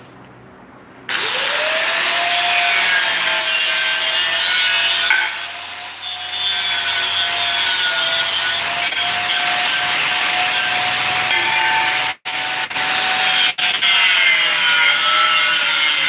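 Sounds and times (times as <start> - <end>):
angle grinder grinding metal pipe: 1.1 - 16.0.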